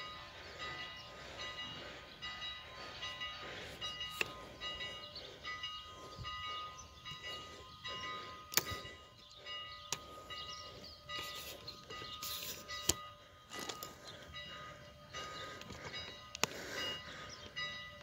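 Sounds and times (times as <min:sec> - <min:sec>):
steam locomotive bell ringing: 0:00.0 - 0:18.0.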